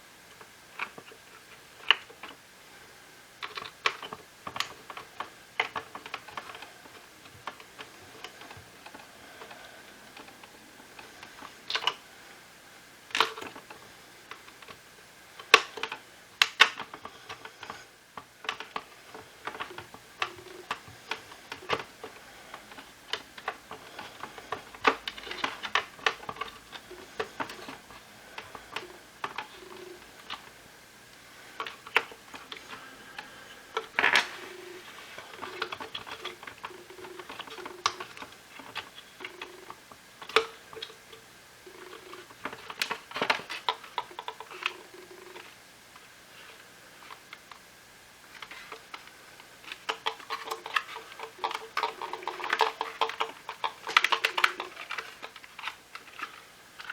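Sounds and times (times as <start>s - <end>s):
plastic parts clicking and knocking: 3.4s - 12.0s, 13.1s - 14.8s, 15.4s - 30.5s, 31.6s - 45.6s, 48.3s - 56.9s.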